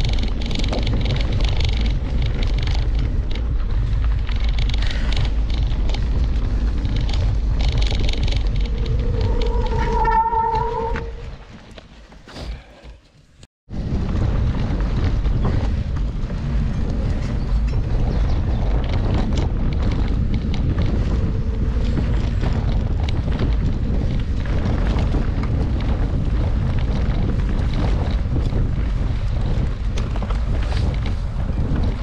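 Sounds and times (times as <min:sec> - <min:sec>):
wind buffeting microphone: 0:00.0 - 0:11.9, 0:13.7 - 0:32.0
bike rattling on rough trail: 0:00.0 - 0:32.0.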